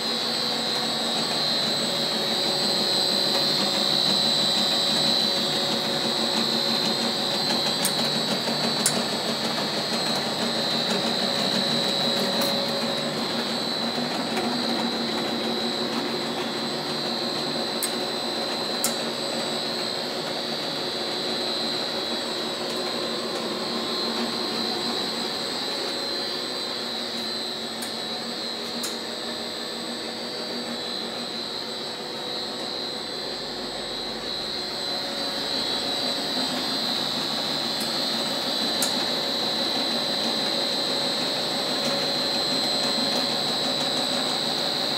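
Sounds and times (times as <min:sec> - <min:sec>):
high steady whine: 0:00.0 - 0:44.9
motors and gearbox humming: 0:00.1 - 0:44.9.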